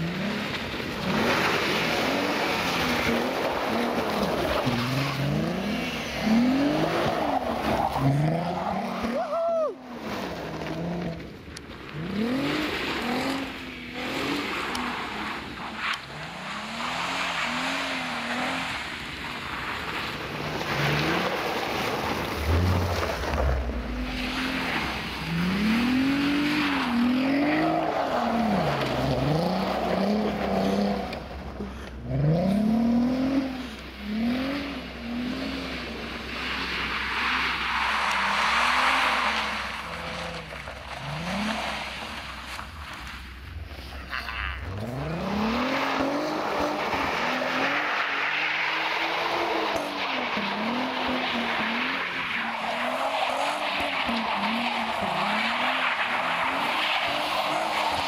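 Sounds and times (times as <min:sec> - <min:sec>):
car engine revving: 0:00.0 - 0:09.2, 0:10.0 - 0:44.0, 0:44.6 - 0:58.0
tyres spinning in snow: 0:00.0 - 0:58.0.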